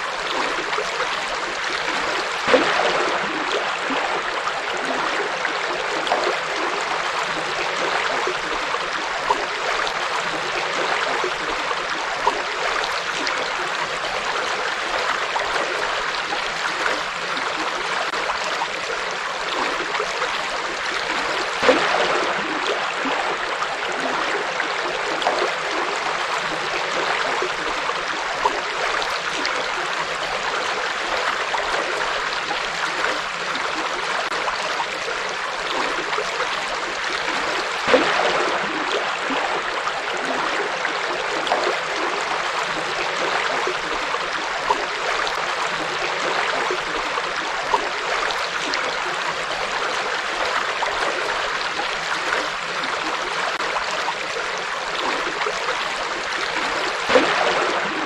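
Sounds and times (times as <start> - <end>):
river flowing over stones: 0.0 - 58.0
water splashes: 0.0 - 58.0.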